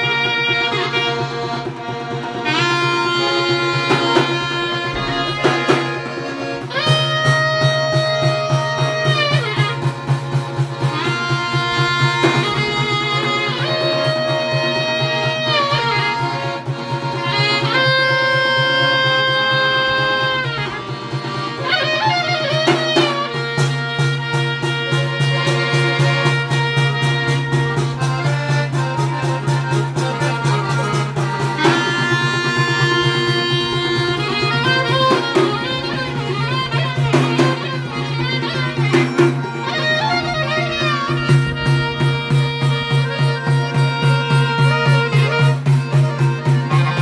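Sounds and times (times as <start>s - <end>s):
frame drum fast rhythm: 0.0s - 18.5s, 20.0s - 47.0s
accordion bass: 0.0s - 47.0s
clarinet long ornamented notes: 0.0s - 47.0s.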